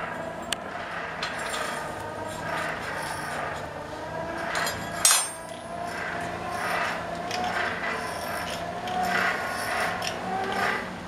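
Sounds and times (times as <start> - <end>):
steady wavering hum: 0.0 - 11.0.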